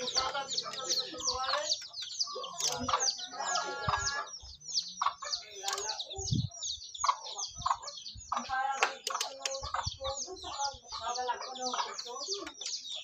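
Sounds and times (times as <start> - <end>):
birds chirping: 0.0 - 13.0
lower bird calls: 0.0 - 13.0.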